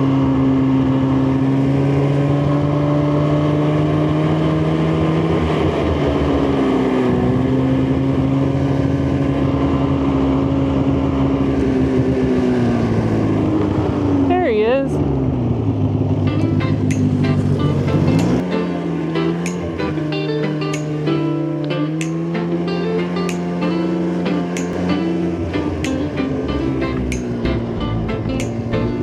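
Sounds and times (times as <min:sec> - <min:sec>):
snowmobile engine running: 0:00.0 - 0:29.0.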